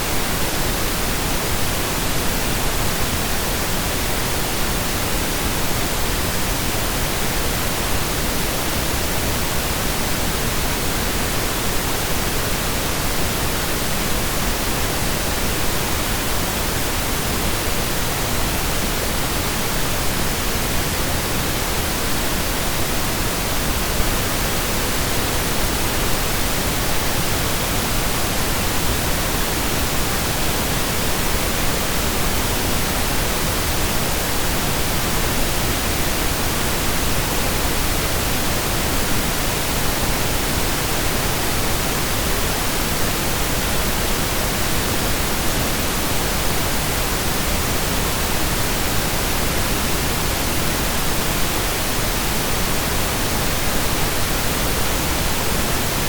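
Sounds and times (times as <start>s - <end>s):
pink noise hiss: 0.0s - 56.0s.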